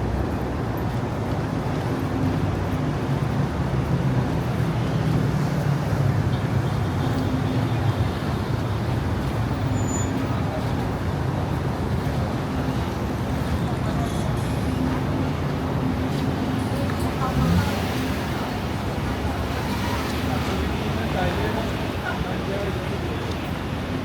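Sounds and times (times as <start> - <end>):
traffic engines rumbling: 0.0 - 24.0.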